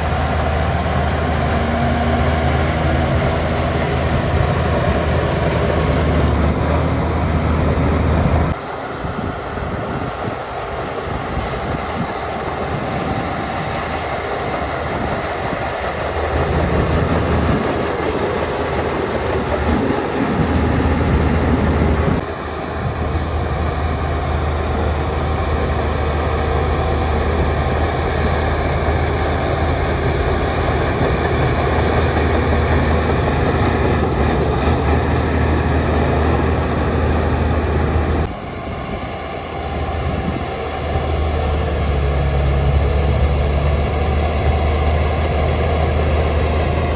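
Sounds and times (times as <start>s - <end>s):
diesel engine drone: 0.0s - 46.9s.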